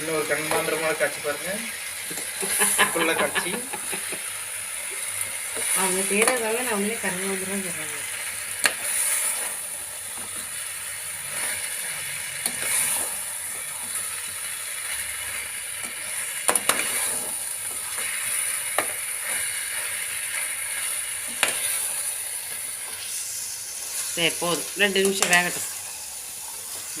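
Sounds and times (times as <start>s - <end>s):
food sizzling in a pan: 0.0s - 27.0s.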